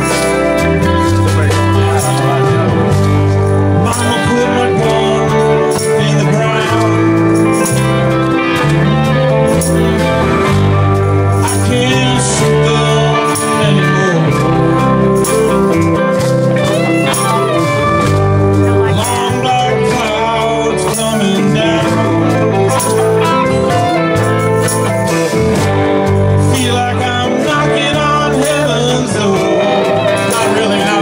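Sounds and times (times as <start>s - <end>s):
bass guitar line: 0.0s - 31.0s
electric guitars: 0.0s - 31.0s
steady drum beat: 0.0s - 31.0s.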